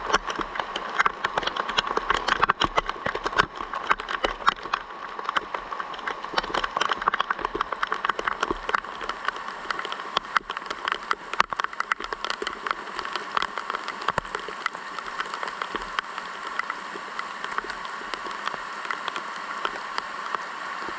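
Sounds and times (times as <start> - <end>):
rain drops on hard surface: 0.0 - 20.9.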